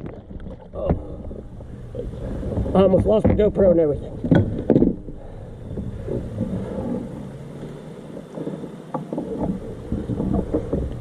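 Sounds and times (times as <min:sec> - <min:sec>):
microphone handling noise: 0:00.0 - 0:11.0.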